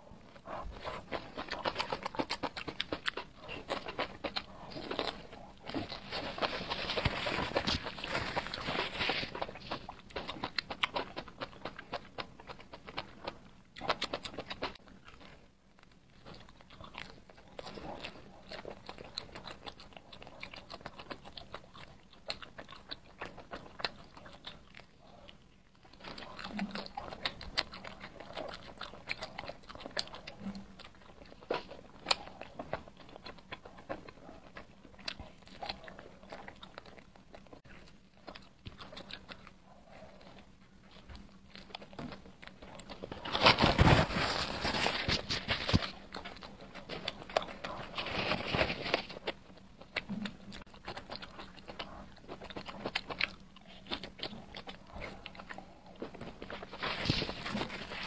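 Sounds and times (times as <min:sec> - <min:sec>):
person biting and chewing: 0:00.3 - 0:25.0, 0:25.8 - 0:58.0.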